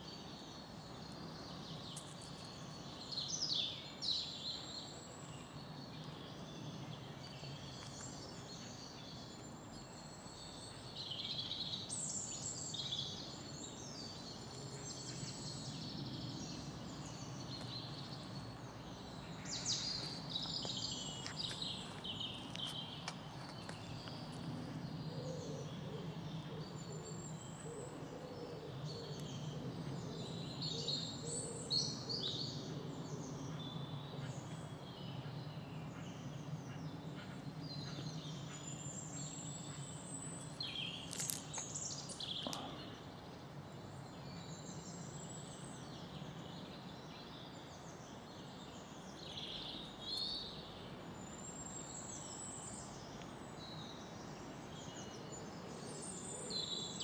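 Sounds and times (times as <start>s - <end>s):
small birds chirping: 0.0s - 27.6s, 28.7s - 57.0s.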